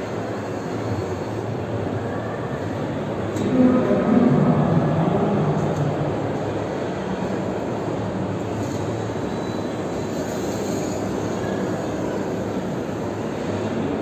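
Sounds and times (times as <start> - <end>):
large indoor hall ambience: 0.0 - 14.0.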